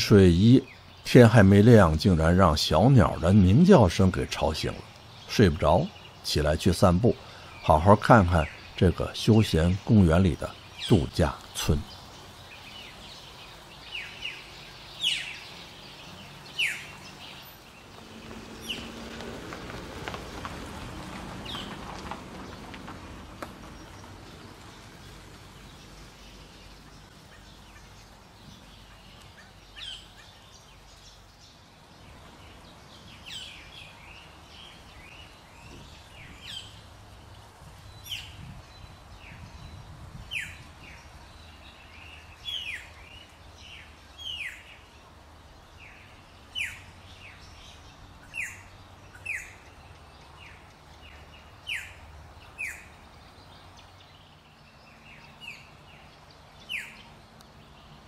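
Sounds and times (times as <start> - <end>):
birds calling sharp notes: 0.0 - 58.0.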